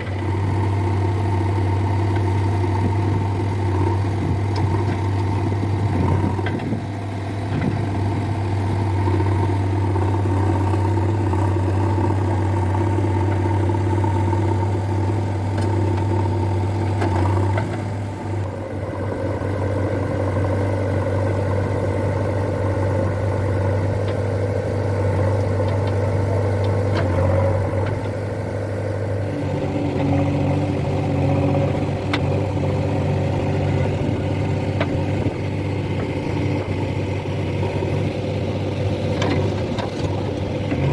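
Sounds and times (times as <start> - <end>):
heavy machinery diesel engines: 0.0 - 40.9.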